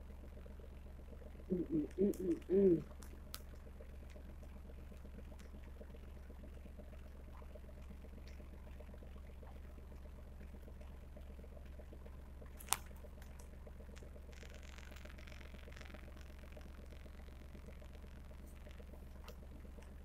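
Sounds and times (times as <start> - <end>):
steady low hum: 0.0 - 20.0
crackling rustle: 0.2 - 10.6, 11.8 - 20.0.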